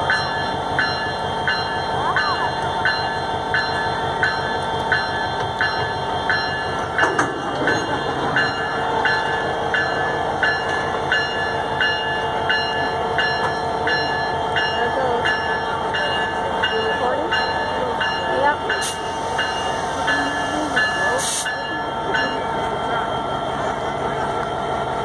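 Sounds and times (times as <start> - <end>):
train hum: 0.0 - 25.0.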